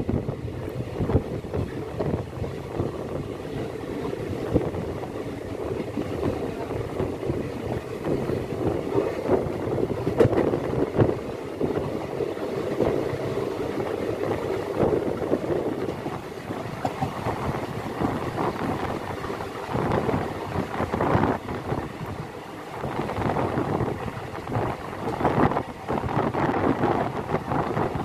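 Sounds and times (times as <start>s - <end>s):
train running rumble: 0.0s - 28.0s
wind buffeting microphone: 0.0s - 28.0s.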